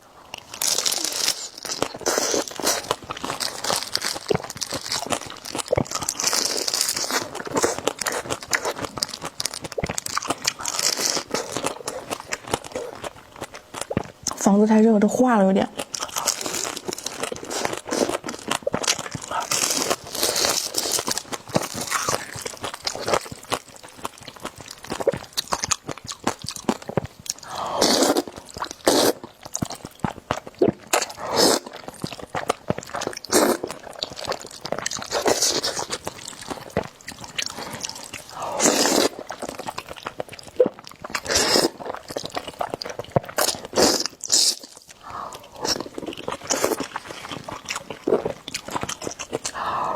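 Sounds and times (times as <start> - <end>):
biting and crunching food: 0.0 - 14.7, 15.6 - 49.9.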